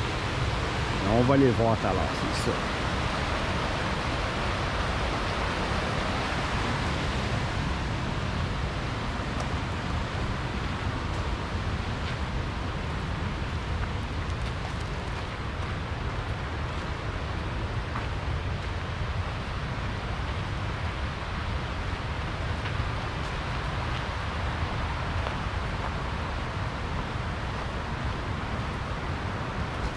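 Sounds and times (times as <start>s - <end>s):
river rushing over rapids: 0.0s - 29.9s.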